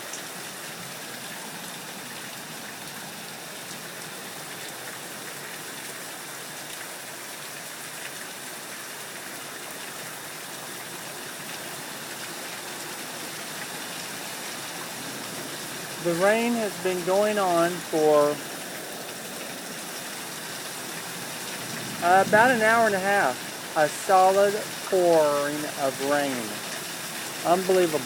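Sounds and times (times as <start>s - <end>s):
heavy rain pouring: 0.0s - 28.0s
water gushing and running off: 0.0s - 28.0s.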